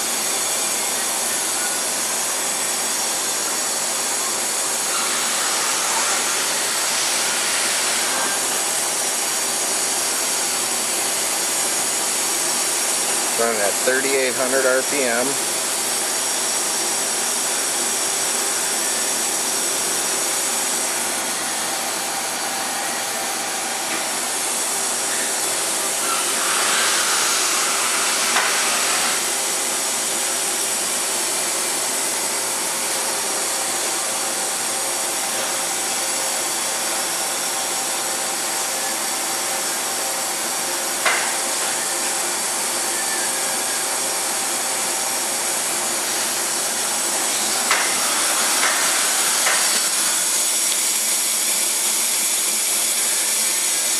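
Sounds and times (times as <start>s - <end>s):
machine spindle whirring with hiss: 0.0s - 53.9s.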